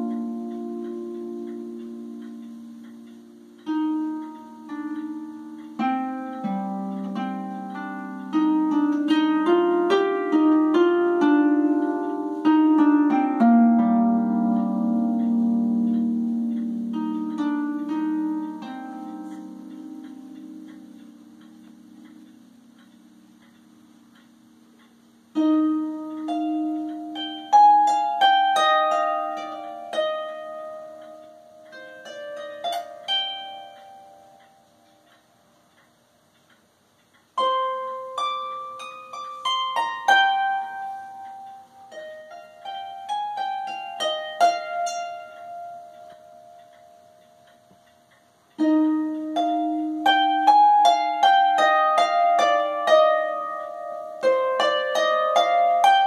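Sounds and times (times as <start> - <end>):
harp plucked notes: 0.0 - 56.0.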